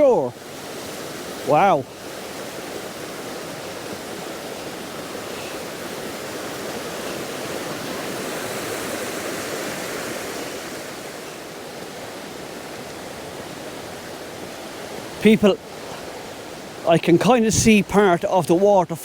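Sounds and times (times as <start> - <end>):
river rushing over rapids: 0.0 - 19.0.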